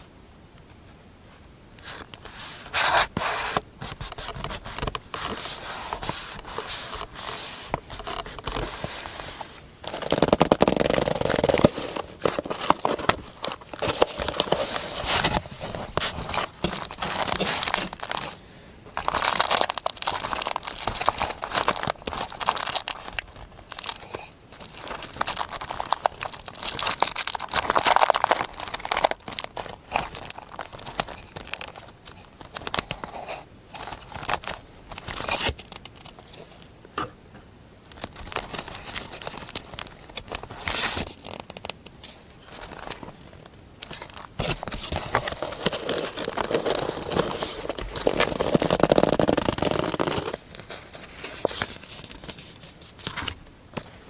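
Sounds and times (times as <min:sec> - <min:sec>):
paper crinkling and tearing: 0:02.7 - 0:36.7, 0:37.9 - 0:54.0.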